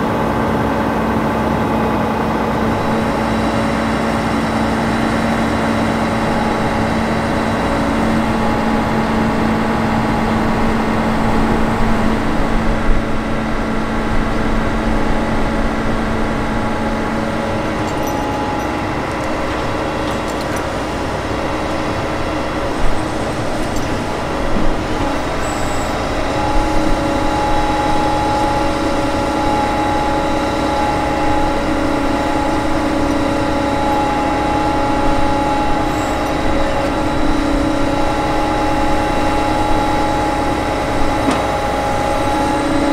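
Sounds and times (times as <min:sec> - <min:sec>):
truck engine and hydraulic crane: 0:00.0 - 0:42.9.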